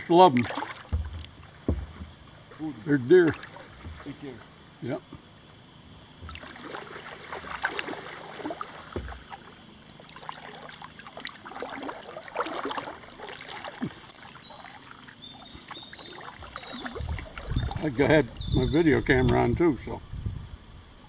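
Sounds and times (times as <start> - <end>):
paddle splashing water: 0.0 - 19.6.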